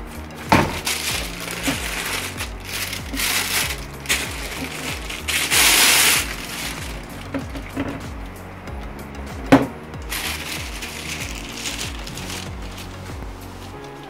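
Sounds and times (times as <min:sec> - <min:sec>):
background music with low notes: 0:00.0 - 0:14.0
plastic bag crinkling: 0:00.4 - 0:08.1, 0:10.1 - 0:14.0.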